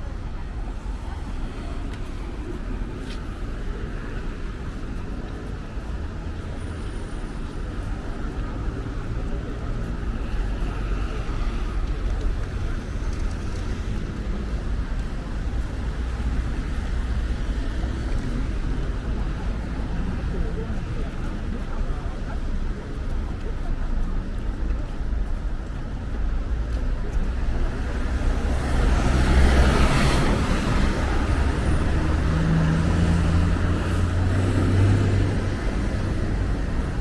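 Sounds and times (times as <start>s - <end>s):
passing vehicles rumbling: 0.0s - 37.0s.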